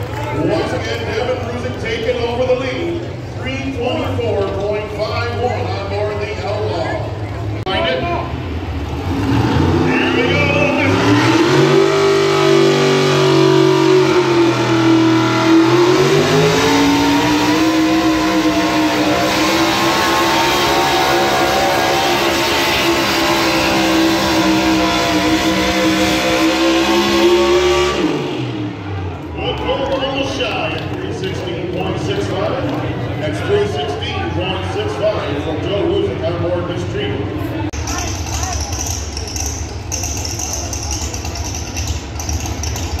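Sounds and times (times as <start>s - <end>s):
truck engine revving hard: 8.3s - 43.0s.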